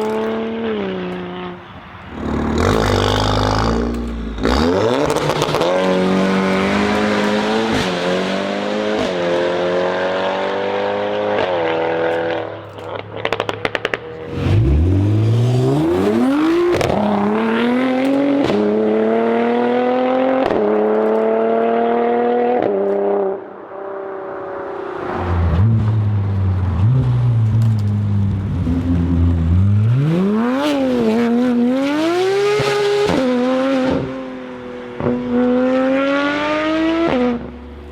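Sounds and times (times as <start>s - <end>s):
car engine revving: 0.0s - 23.5s, 24.2s - 37.9s.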